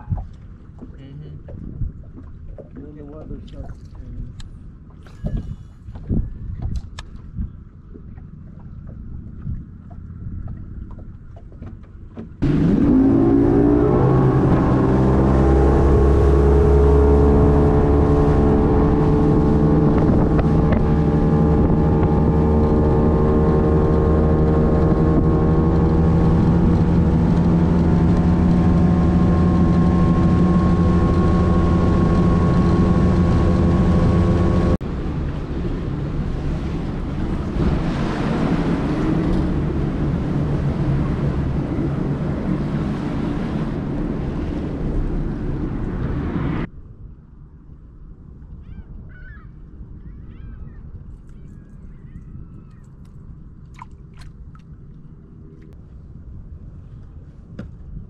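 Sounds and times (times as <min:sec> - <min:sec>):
outboard motor running: 0:00.0 - 0:46.7.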